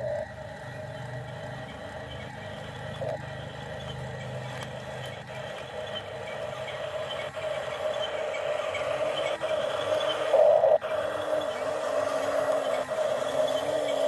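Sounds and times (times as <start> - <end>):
toy motors and gears whirring: 0.0 - 14.0.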